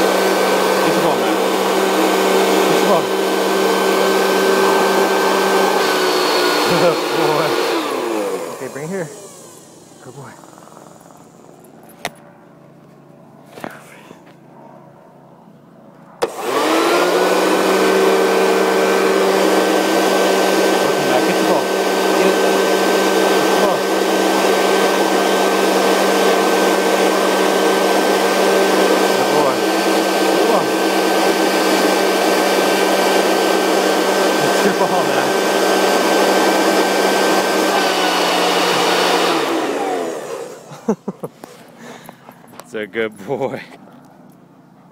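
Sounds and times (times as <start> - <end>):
leaf blower motor whining: 0.0 - 13.8, 16.2 - 42.7.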